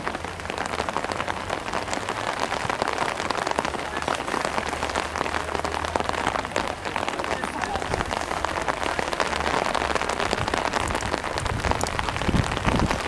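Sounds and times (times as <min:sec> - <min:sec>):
rain patter: 0:00.0 - 0:13.0.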